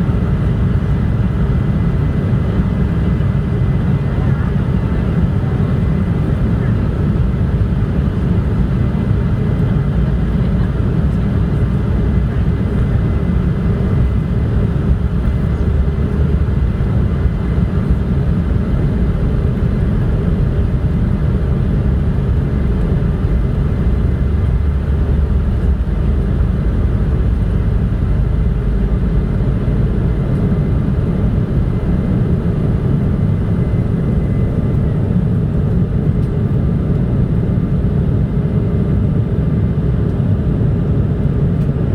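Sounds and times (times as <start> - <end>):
jet airliner cabin rumble: 0.0 - 41.9.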